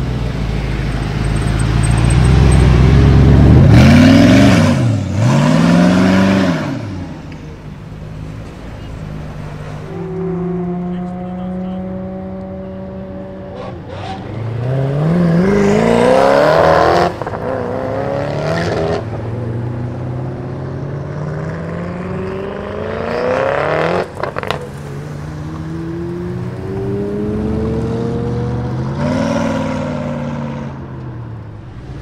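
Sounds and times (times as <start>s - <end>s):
car engine revving and accelerating: 0.0s - 7.4s, 8.9s - 32.0s.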